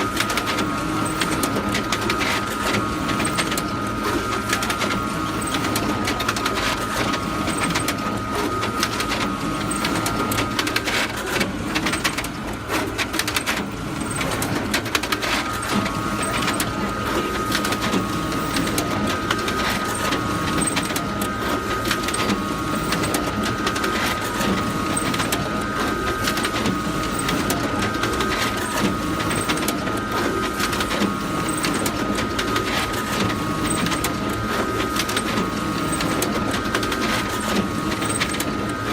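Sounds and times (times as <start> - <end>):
photocopier running: 0.0 - 38.9.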